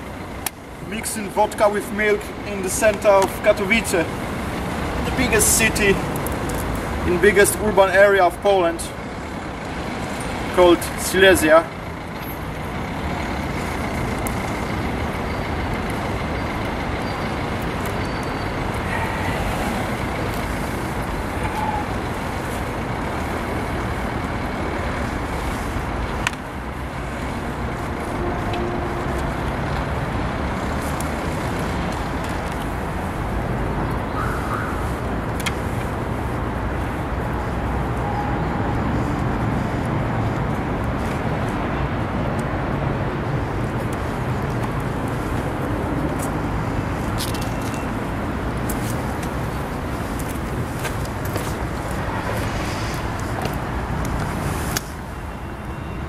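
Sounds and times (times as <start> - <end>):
road traffic rushing: 0.0 - 56.0.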